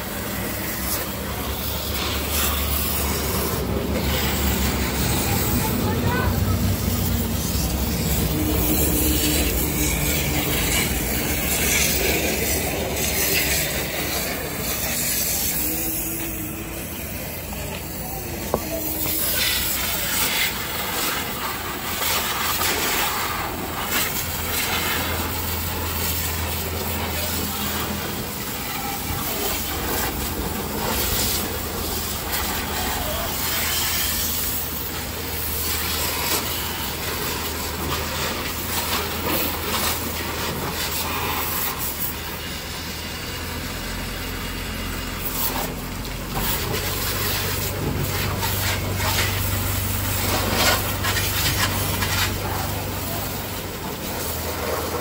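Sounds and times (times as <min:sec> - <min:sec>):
pressure washer jet hissing: 0:00.0 - 0:55.0
pump motor humming: 0:00.0 - 0:55.0.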